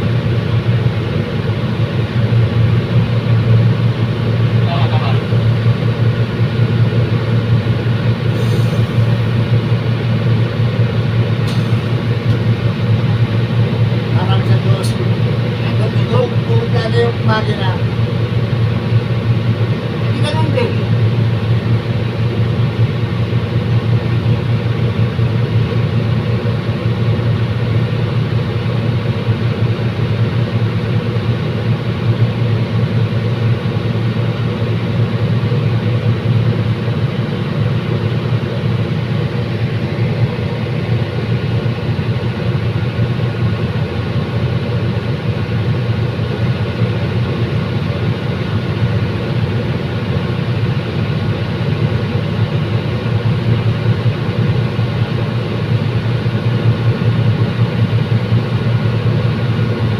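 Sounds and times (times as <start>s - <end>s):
train diesel engine droning: 0.0s - 59.9s.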